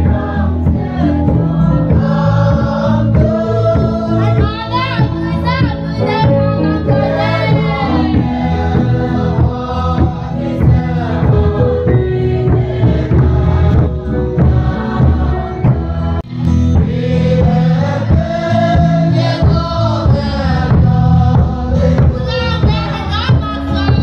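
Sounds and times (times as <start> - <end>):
choir singing a hymn: 0.0 - 24.0
instrumental accompaniment: 0.0 - 24.0.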